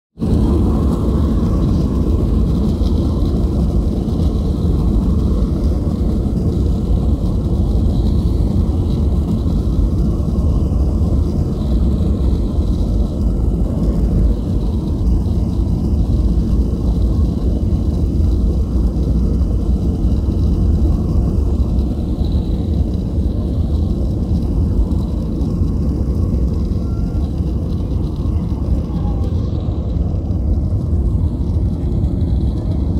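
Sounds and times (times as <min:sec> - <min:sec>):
wheels rumbling on runway: 0:00.1 - 0:32.9
faint high whine: 0:00.2 - 0:32.9
jet engines at takeoff thrust: 0:00.2 - 0:32.9.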